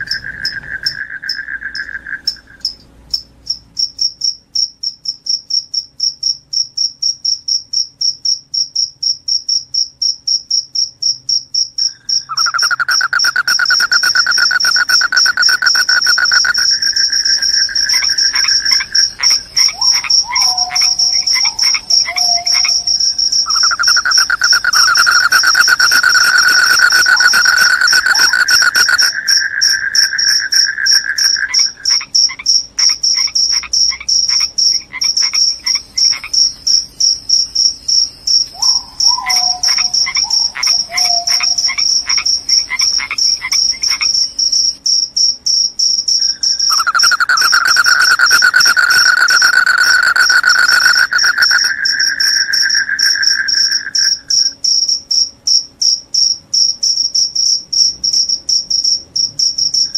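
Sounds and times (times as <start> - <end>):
high cricket chirping: 0.0 - 59.9
low continuous cricket trill: 0.0 - 59.9.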